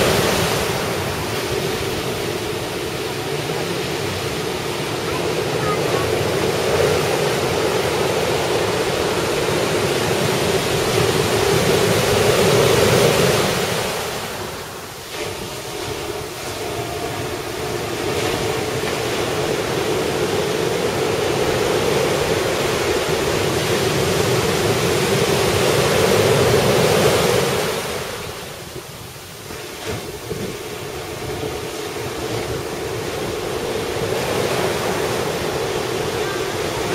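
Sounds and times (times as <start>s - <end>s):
ocean surf washing onto beach: 0.0s - 36.9s.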